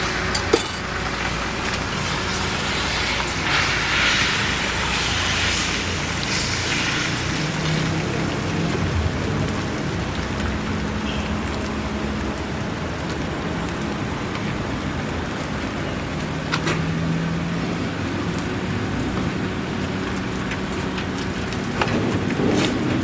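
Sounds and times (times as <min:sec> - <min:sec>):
patties sizzling on a griddle: 0:00.0 - 0:23.0.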